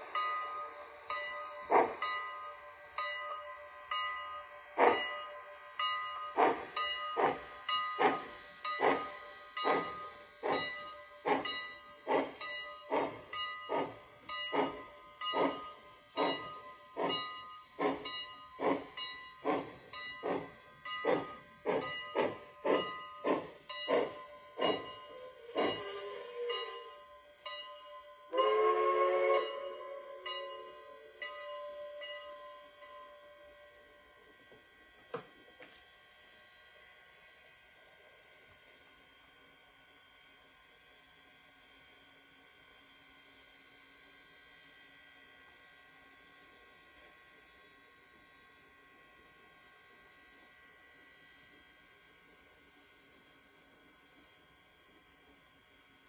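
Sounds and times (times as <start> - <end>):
model steam locomotive chuffing: 0.0 - 56.0.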